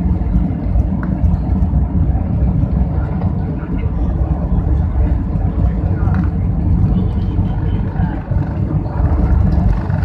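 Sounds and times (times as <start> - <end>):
jet engines and wheels rumbling: 0.0 - 10.0.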